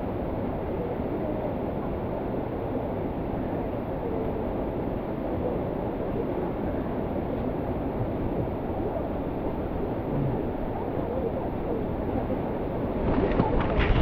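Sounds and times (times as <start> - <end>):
mountain stream: 0.0 - 14.0.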